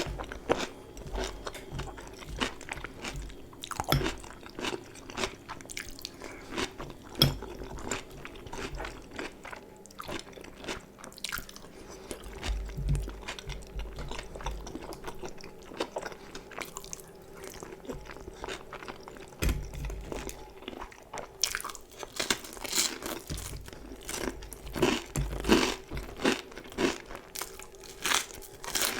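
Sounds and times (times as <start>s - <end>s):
chewing crunchy food: 0.0s - 28.9s.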